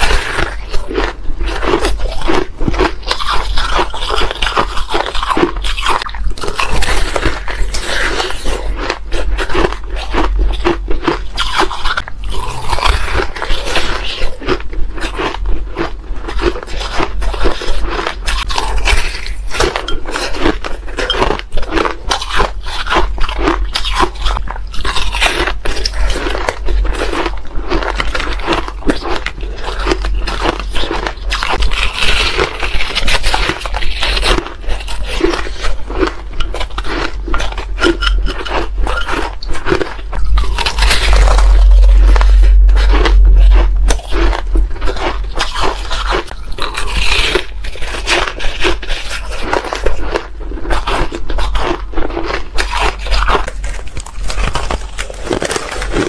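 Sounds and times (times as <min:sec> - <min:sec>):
crunching of shaved ice: 0:00.0 - 0:56.0.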